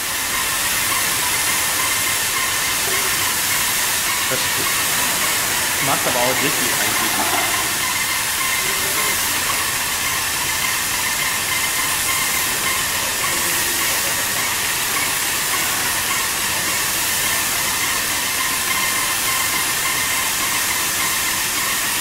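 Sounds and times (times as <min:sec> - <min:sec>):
paint spray gun hissing: 0:00.0 - 0:21.8.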